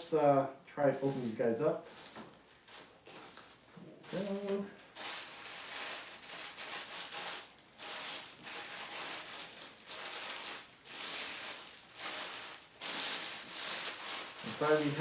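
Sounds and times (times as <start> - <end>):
wrapping torn and crinkled: 0.9 - 15.0.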